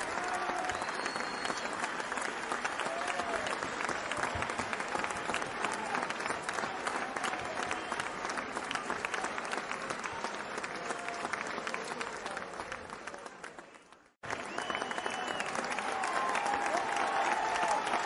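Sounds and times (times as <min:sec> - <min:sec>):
crowd applause: 0:00.0 - 0:18.0.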